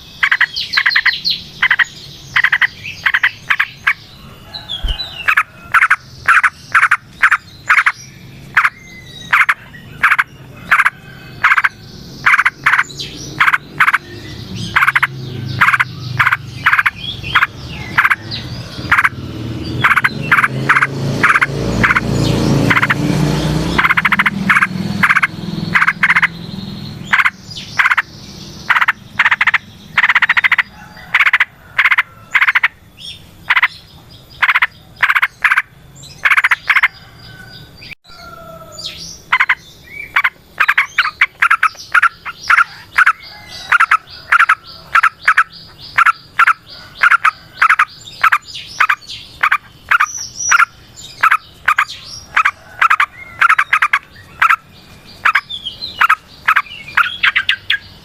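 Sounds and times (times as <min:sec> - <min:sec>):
bulbul chattering call: 0:00.0 - 0:23.0, 0:23.7 - 0:37.1, 0:38.7 - 0:58.0.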